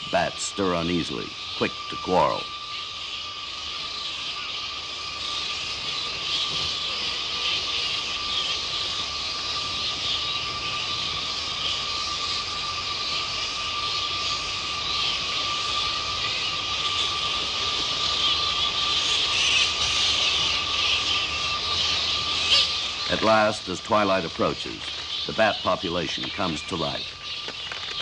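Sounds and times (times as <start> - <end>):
thin steady tone: 0.0 - 27.3
fruit bats chattering: 0.0 - 28.0.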